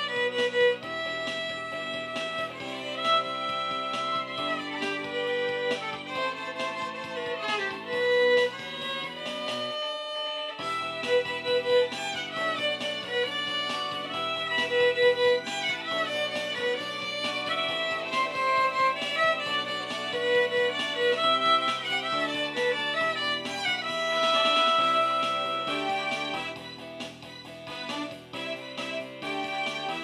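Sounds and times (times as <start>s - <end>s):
karaoke backing track: 0.0s - 30.0s
violin melody: 0.0s - 30.0s.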